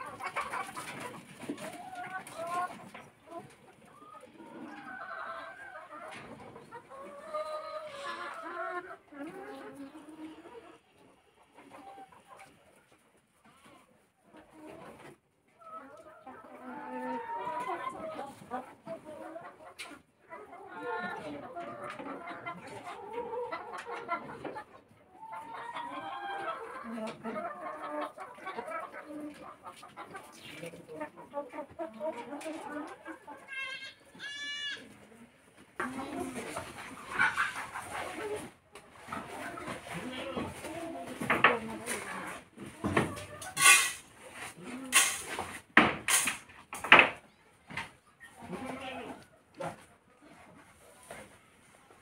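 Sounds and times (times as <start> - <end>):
hens clucking: 0.0 - 52.0.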